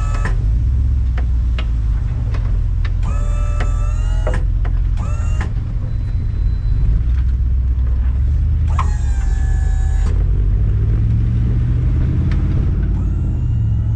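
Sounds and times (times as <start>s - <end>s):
truck engine and road rumble: 0.0s - 13.9s.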